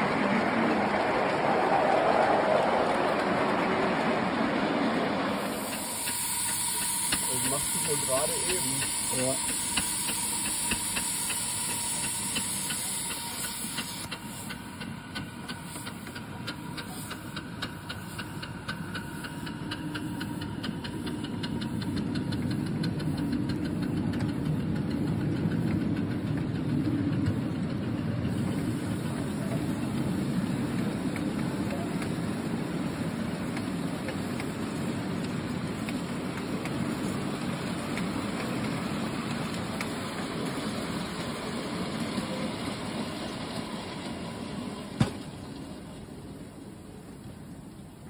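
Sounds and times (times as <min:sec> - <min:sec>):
wheels rumbling on rails: 0:00.0 - 0:48.0
steam locomotive rhythmic beat: 0:03.1 - 0:44.7
steam hiss: 0:05.0 - 0:46.8.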